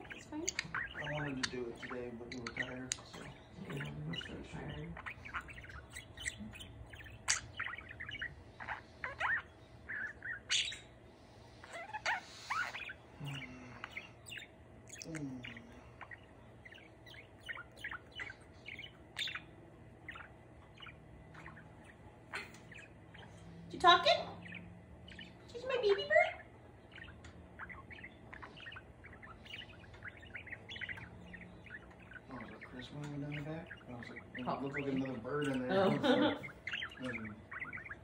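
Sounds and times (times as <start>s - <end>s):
budgerigar chattering: 0.0s - 11.0s, 11.6s - 38.0s.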